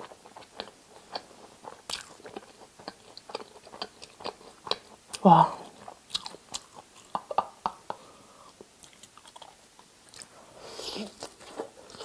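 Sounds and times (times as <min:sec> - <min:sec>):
crunchy chewing: 0:00.0 - 0:07.1, 0:08.4 - 0:12.0.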